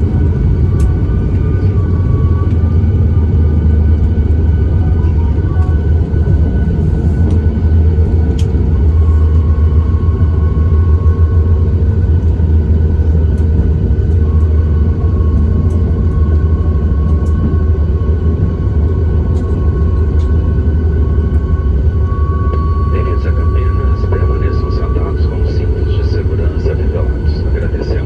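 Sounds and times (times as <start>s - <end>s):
aircraft cabin rumble: 0.0s - 28.0s
faint whining tones: 0.0s - 28.0s.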